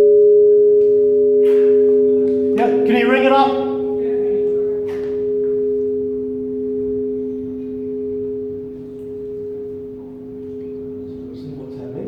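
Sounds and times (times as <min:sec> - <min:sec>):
tower bell humming: 0:00.0 - 0:12.0.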